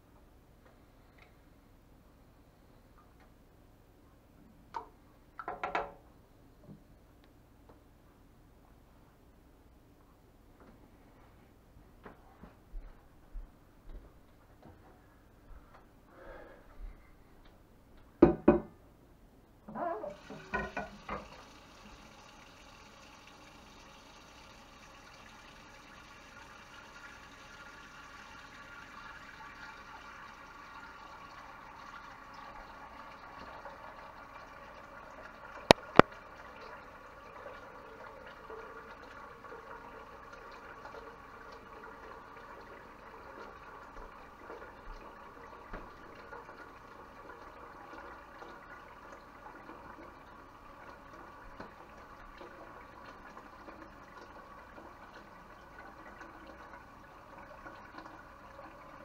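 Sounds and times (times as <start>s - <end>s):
water heating with light bubbling: 0.0s - 59.0s.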